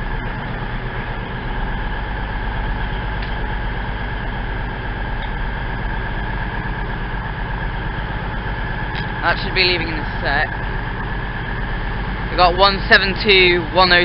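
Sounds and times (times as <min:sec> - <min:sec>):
diesel train engines idling: 0:00.0 - 0:14.0.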